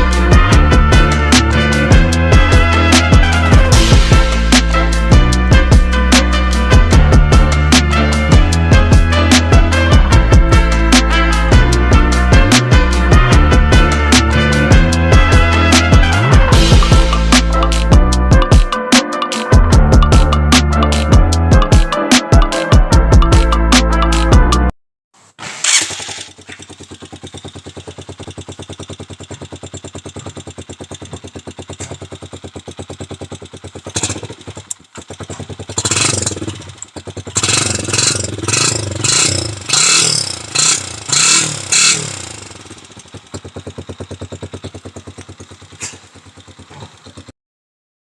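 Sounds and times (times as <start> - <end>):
motorcycle engine idling: 0.0 - 18.0, 25.4 - 47.3
motorcycle throttle revs: 0.0 - 18.2, 25.2 - 47.3.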